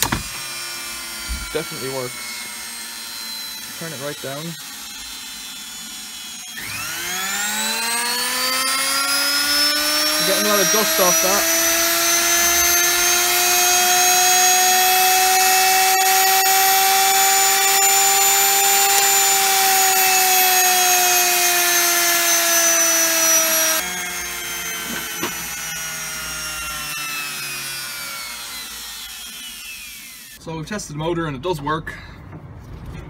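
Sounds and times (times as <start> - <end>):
electric motor whining: 0.0 - 30.4.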